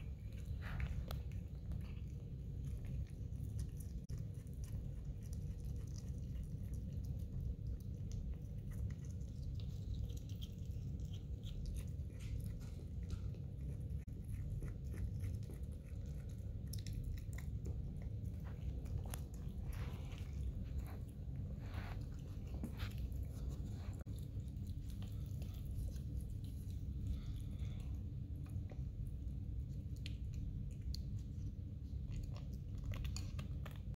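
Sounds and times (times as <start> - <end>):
animal chewing food: 0.0 - 34.0
steady low rumble: 0.0 - 34.0.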